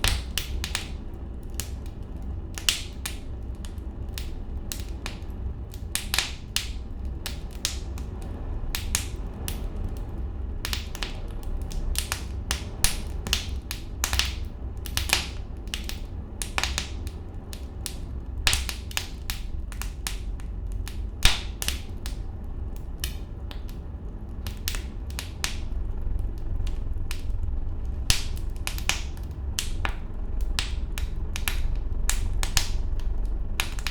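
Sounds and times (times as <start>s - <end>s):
fire crackling and popping: 0.0s - 33.9s.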